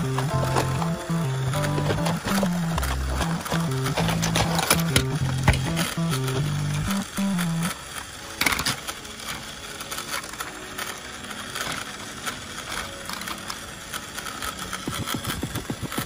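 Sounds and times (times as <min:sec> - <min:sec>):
gears and wheels rattling: 0:00.0 - 0:16.0
toy train motor whirring: 0:00.0 - 0:16.0.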